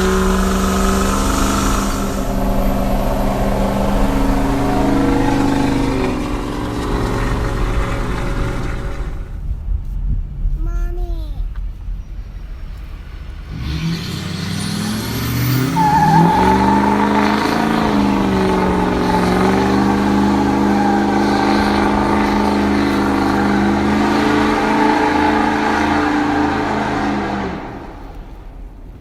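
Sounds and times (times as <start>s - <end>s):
diesel engine revving: 0.0s - 9.4s, 12.7s - 28.3s
tire squealing: 0.0s - 9.5s, 11.9s - 29.0s.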